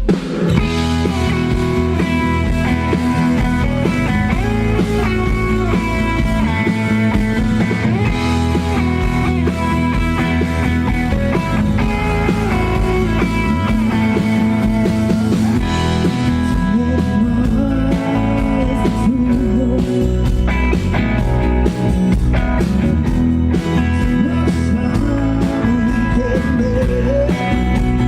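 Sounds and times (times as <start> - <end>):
drums keeping a steady beat: 0.0 - 28.0
guitar: 0.0 - 28.0
rock band playing: 0.0 - 28.0.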